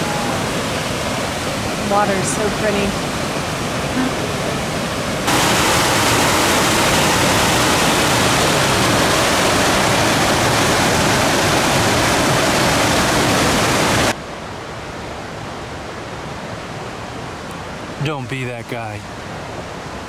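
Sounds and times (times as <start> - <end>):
creek rushing over rocks: 0.0 - 20.0
distant river rushing: 0.0 - 20.0.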